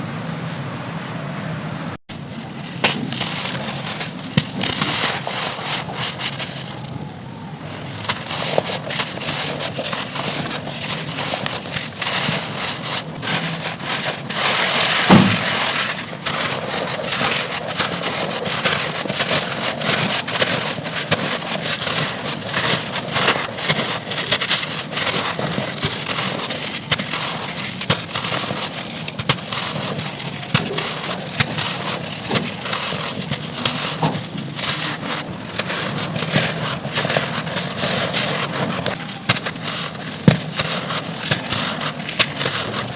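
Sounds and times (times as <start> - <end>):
dry dirt crunching and crumbling: 2.1 - 42.9.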